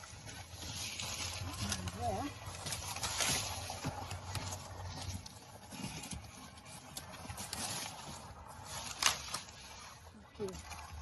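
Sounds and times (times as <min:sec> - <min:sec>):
rustling foliage and soil: 0:00.0 - 0:11.0.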